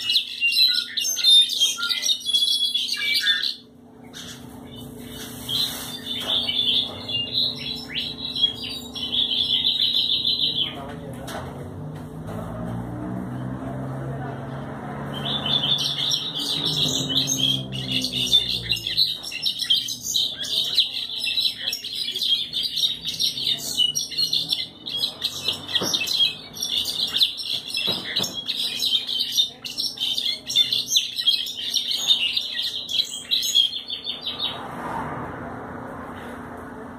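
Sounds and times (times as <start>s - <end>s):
finch singing high twitters: 0.0s - 10.9s, 15.1s - 34.6s.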